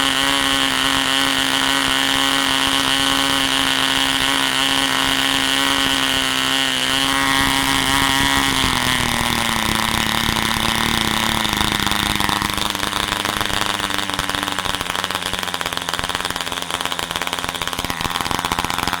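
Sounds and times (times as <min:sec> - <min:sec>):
model diesel engine whining: 0:00.0 - 0:19.0.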